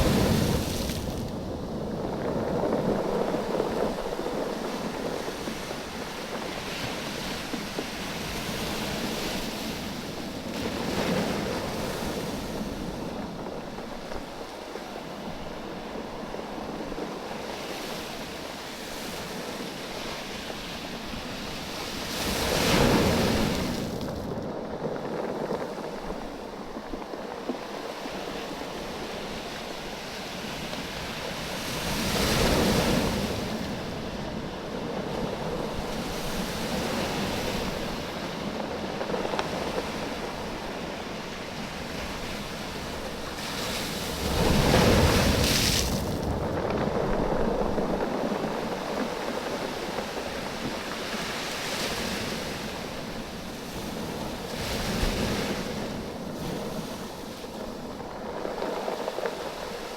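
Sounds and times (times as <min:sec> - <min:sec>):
small waves washing on a beach: 0:00.0 - 0:59.9.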